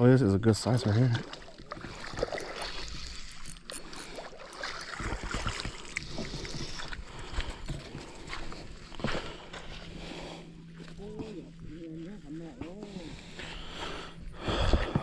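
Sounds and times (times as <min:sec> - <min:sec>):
water splashing and sloshing: 0:00.5 - 0:15.0.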